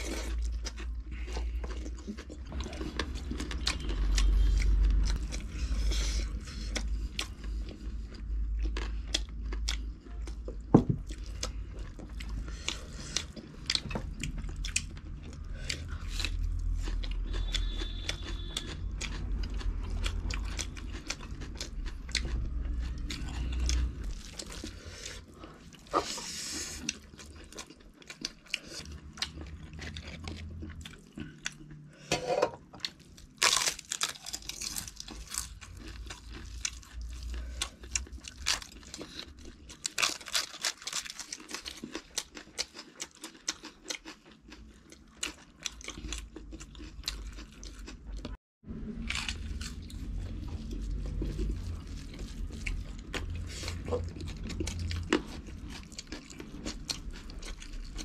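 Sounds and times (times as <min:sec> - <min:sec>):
crunching of fried crackers: 0:00.0 - 0:31.9, 0:32.8 - 0:58.0
wet chewing and smacking: 0:00.0 - 0:32.0, 0:32.7 - 0:58.0.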